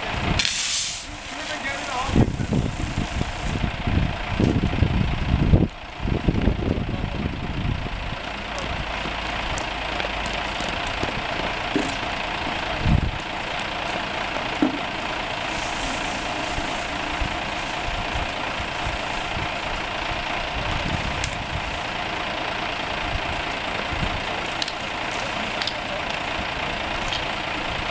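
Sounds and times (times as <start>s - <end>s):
pump engine running: 0.0s - 27.9s.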